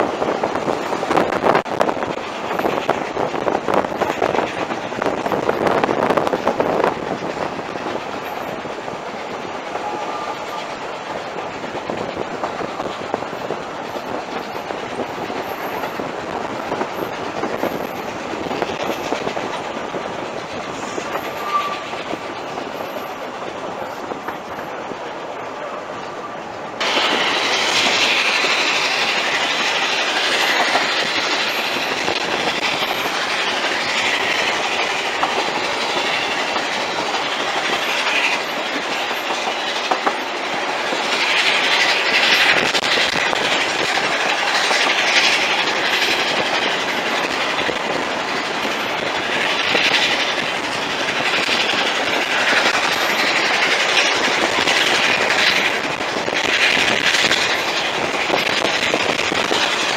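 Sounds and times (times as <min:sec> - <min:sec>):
wheels clattering on track: 0:00.0 - 0:59.9.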